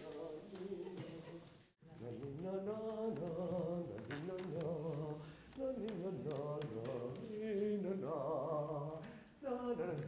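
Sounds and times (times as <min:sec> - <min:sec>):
man singing wordless tune: 0:00.0 - 0:10.0.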